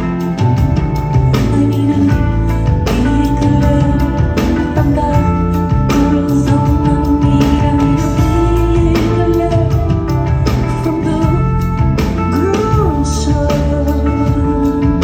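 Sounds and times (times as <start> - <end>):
bass line: 0.0 - 15.0.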